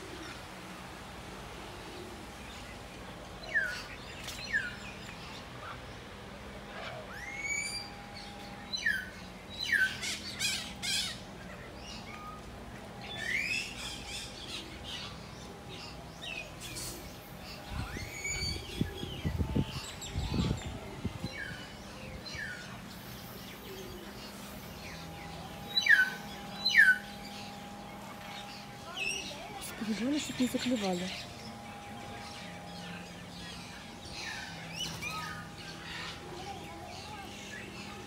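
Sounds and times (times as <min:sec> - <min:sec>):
birds squawking and chirping: 0:00.0 - 0:38.0
faint steady hum: 0:00.0 - 0:38.0.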